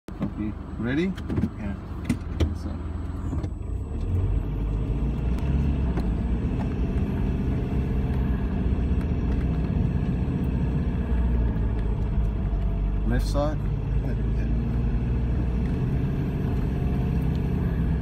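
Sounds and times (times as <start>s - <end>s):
vehicle engine and road rumble: 0.1s - 18.0s.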